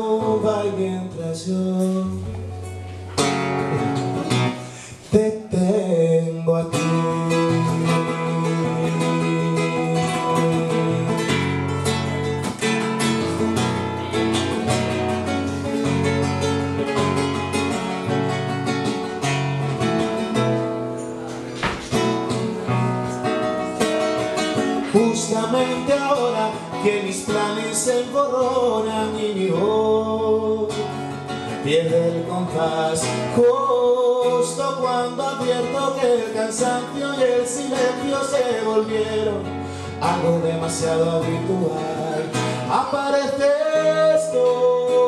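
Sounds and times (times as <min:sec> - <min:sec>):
acoustic guitar strummed and picked: 0:00.0 - 0:45.0.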